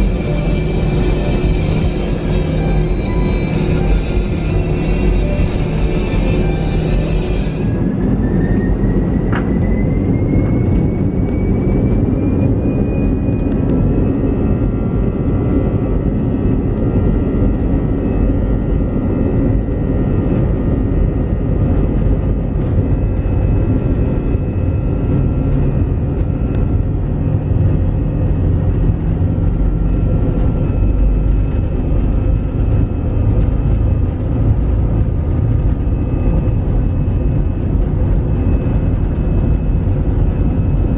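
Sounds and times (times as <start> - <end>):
jet engine rumble: 0.0 - 40.9
jet engine whine rising: 0.0 - 40.9.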